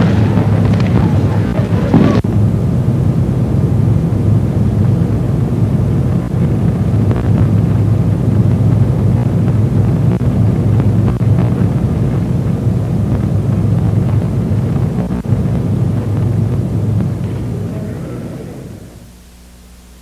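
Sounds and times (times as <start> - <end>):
low microphone rumble: 0.0 - 19.6.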